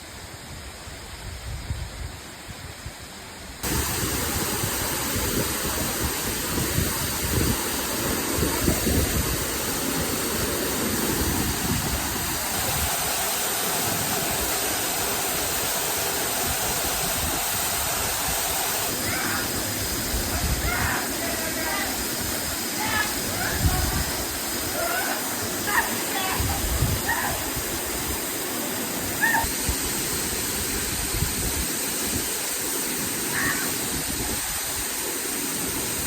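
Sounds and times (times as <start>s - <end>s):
waterfall: 0.0s - 36.0s.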